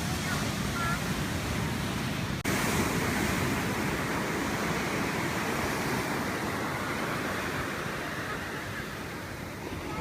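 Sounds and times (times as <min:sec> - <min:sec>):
ocean surf washing: 0:00.0 - 0:10.0.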